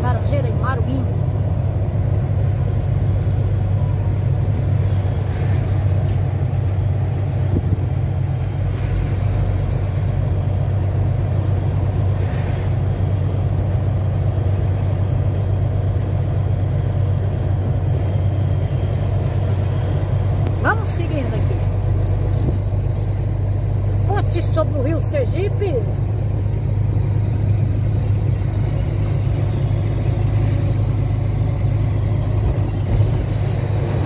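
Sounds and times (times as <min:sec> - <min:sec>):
road noise: 0:00.0 - 0:34.0
truck diesel engine drone: 0:00.0 - 0:34.0.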